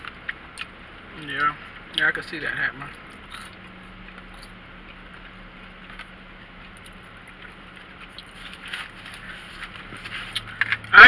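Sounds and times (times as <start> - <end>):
quiet eating noises: 0.0 - 10.9.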